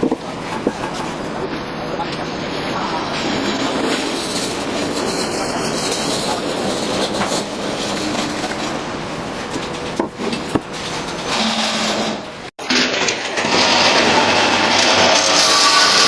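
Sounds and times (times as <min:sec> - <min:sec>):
bandsaw cutting floor tile: 0:00.0 - 0:16.0.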